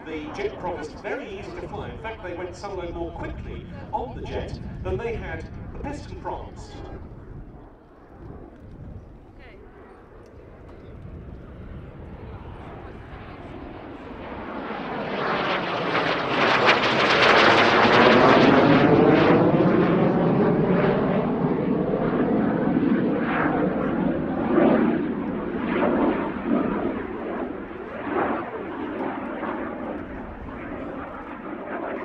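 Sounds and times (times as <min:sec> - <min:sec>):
jet aircraft passing: 0:00.0 - 0:32.0.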